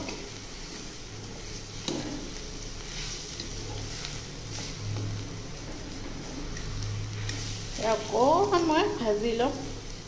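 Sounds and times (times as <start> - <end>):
spatula scraping pan: 0.0 - 8.8
spices sizzling in oil: 0.0 - 10.0.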